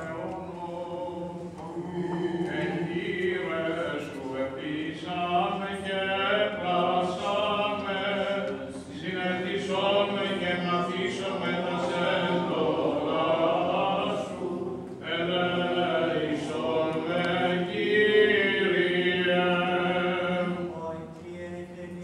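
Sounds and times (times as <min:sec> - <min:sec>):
unaccompanied voices chanting: 0:00.0 - 0:22.0.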